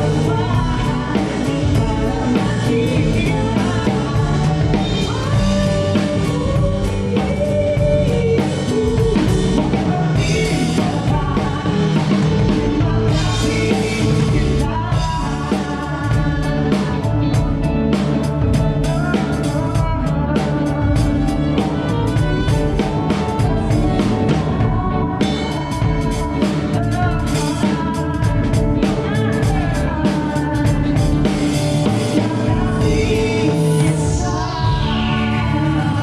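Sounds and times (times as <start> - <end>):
live band playing: 0.0 - 36.0
person singing: 0.0 - 36.0.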